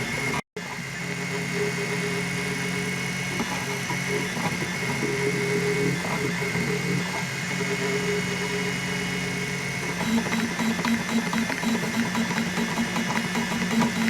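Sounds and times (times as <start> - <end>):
stepper motors humming: 0.0 - 14.0.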